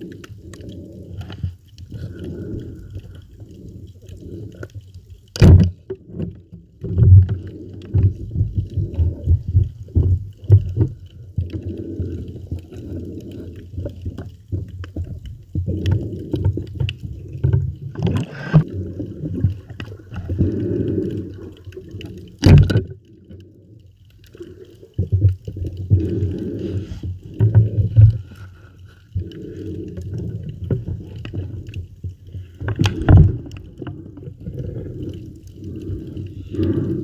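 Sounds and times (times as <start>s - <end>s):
muffled underwater gurgling: 6.8s - 37.0s.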